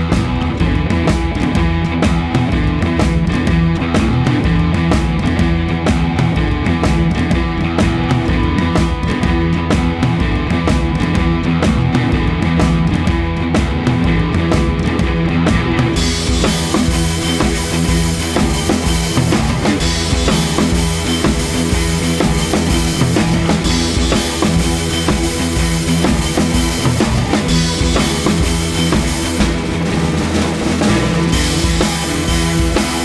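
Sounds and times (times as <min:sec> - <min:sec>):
drum kit beat: 0:00.0 - 0:33.0
rock music: 0:00.0 - 0:33.0.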